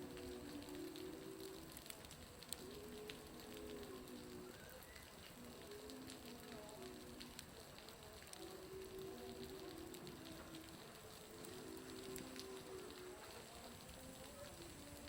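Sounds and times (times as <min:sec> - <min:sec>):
water dripping and spattering: 0:00.0 - 0:15.0.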